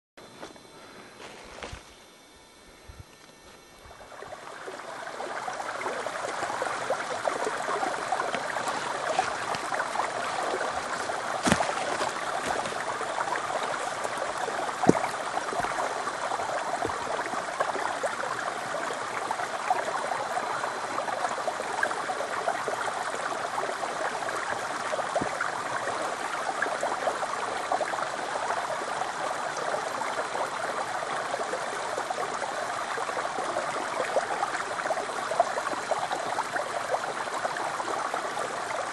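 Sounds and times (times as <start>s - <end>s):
stream trickling over rock: 3.3s - 38.9s.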